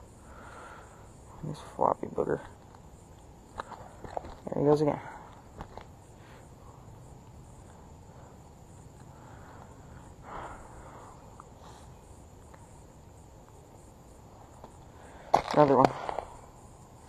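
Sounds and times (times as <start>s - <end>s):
insects chirping: 0.0s - 17.0s
rustle: 0.0s - 17.0s.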